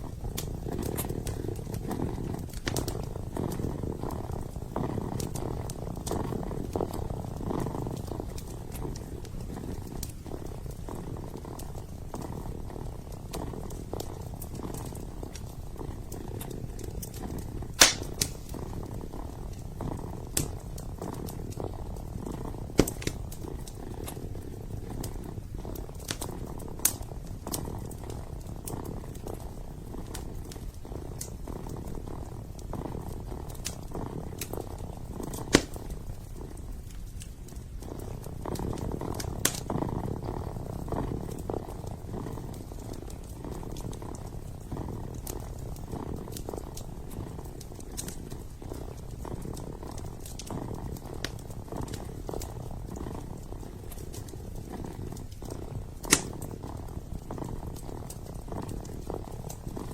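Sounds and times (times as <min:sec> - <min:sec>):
kitten purring: 0:00.0 - 0:59.9
wood fire crackling and popping: 0:00.0 - 0:59.9.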